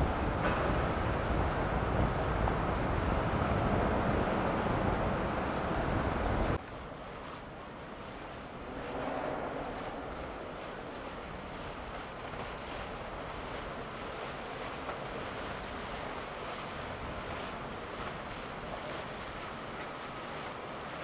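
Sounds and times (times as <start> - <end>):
boat wash rushing: 0.0 - 21.0
wind on microphone: 0.0 - 21.0.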